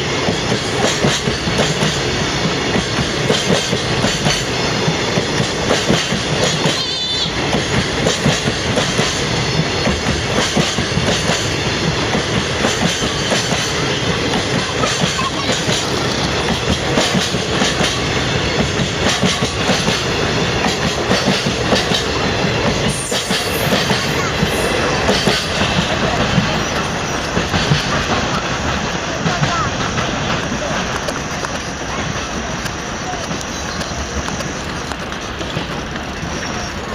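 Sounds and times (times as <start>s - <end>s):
freight train wheels clattering: 0.0s - 36.9s.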